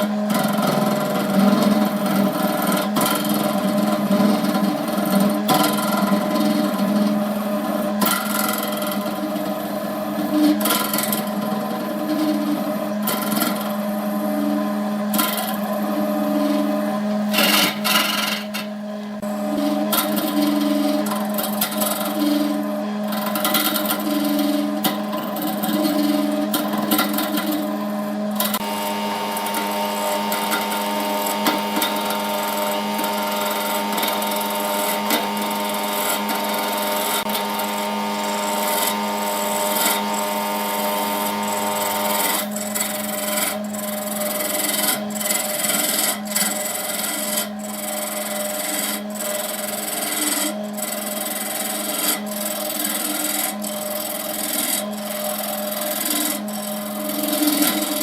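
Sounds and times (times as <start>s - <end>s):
tool scraping spinning wood: 0.0s - 58.0s
wood lathe motor hum: 0.0s - 58.0s.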